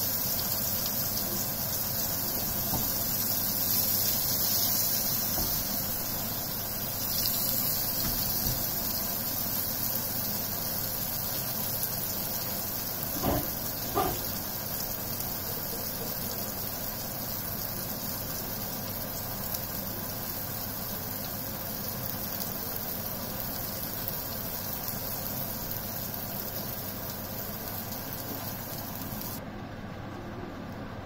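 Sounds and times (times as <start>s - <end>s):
slices frying in hot oil: 0.0s - 29.4s.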